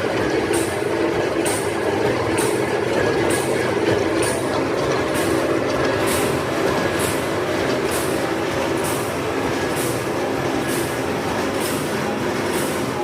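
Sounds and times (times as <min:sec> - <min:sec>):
machine running: 0:00.0 - 0:13.0.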